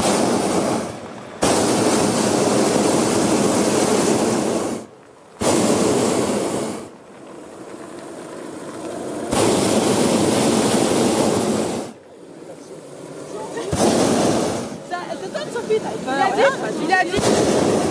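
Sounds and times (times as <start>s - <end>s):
propane burner blasts: 0.0s - 17.9s.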